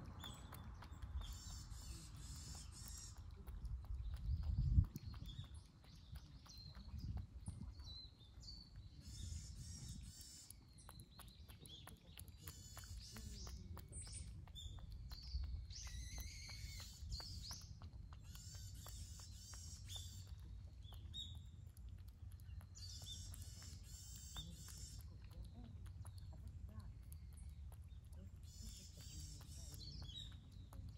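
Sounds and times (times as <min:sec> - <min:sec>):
faint irregular clicks: 0:00.0 - 0:08.9, 0:10.0 - 0:30.9
low outdoor rumble: 0:00.0 - 0:30.9
small birds chirping: 0:00.0 - 0:30.9.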